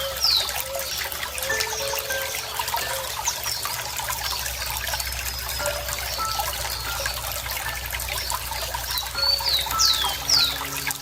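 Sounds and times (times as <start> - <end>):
bird calling: 0.0 - 4.4, 5.4 - 11.0
water trickling: 0.0 - 11.0.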